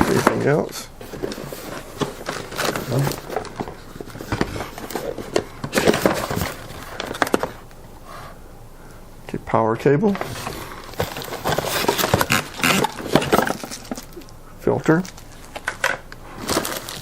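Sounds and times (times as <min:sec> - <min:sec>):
rummaging through cardboard box: 0:00.0 - 0:07.7, 0:10.1 - 0:14.4, 0:15.0 - 0:17.0.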